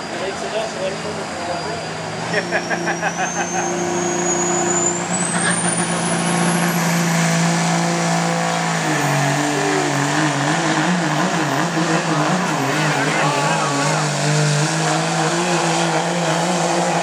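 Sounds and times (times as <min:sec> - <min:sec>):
diesel engine at full throttle: 0:00.0 - 0:17.0.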